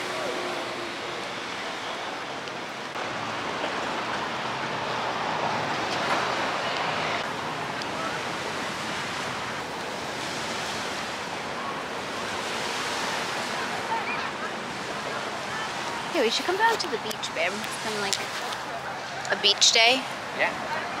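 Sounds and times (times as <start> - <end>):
waves washing on shore: 0.0 - 21.0.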